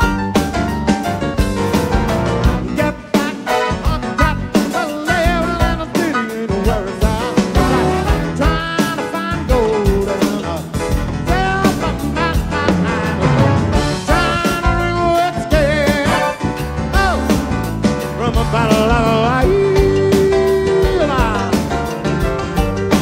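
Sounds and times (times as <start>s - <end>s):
piano-led band song: 0.0s - 23.0s
steady drum beat: 0.0s - 23.0s.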